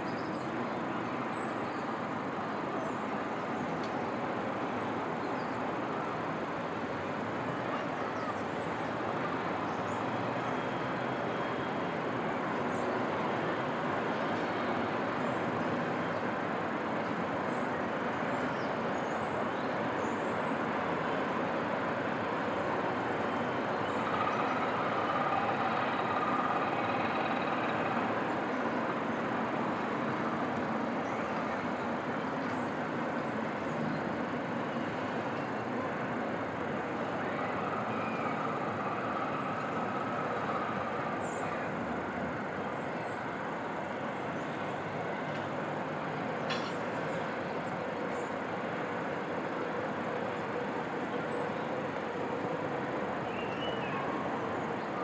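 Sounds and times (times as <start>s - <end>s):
distant city traffic: 0.0s - 55.0s
faint steady whine: 0.0s - 55.0s.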